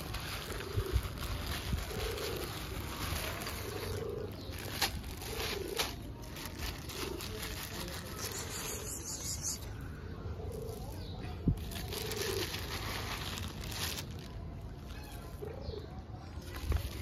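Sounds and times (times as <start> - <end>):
plastic bag rustling: 0.0 - 9.4, 10.5 - 15.5, 16.3 - 17.0
soft low coo-like calls: 0.0 - 17.0.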